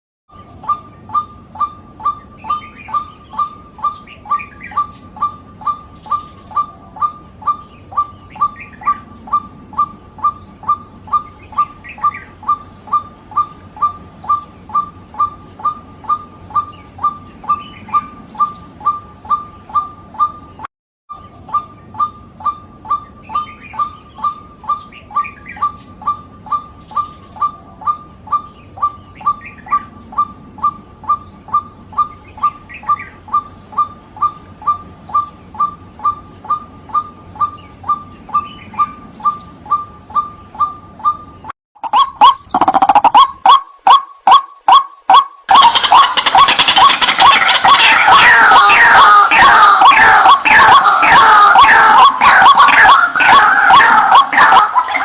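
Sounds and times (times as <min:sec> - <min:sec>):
faint higher bird calls: 0:00.3 - 0:55.0.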